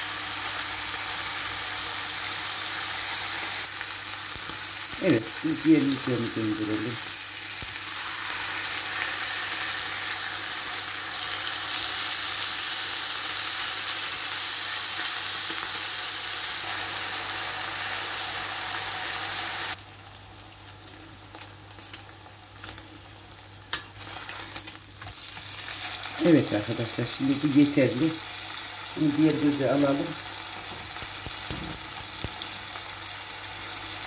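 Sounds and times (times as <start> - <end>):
steaks sizzling in a frying pan: 0.0 - 34.0.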